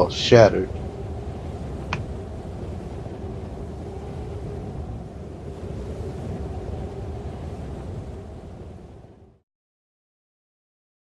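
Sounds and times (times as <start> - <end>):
faint hum: 0.0 - 9.4
vehicle engine rumbling: 0.0 - 9.4.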